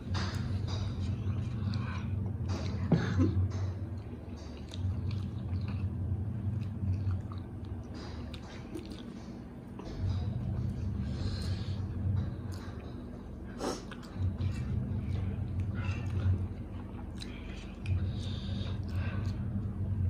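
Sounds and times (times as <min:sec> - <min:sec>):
people chewing and slurping: 0:00.0 - 0:20.0.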